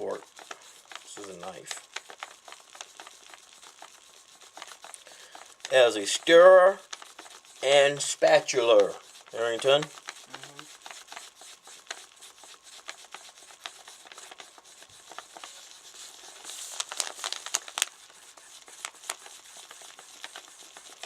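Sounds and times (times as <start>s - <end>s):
plastic knife scraping glue: 0.0s - 21.0s.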